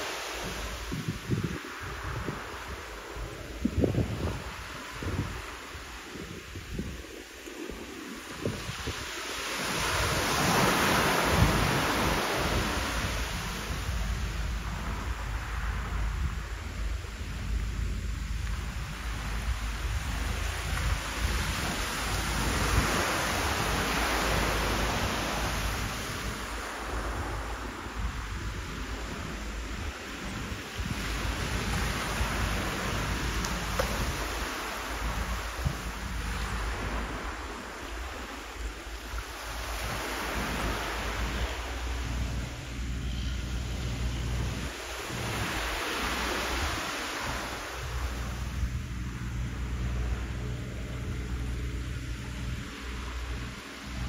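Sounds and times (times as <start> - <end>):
waves washing up pebble beach: 0.0 - 50.5
low wind rumble on microphone: 0.0 - 54.0.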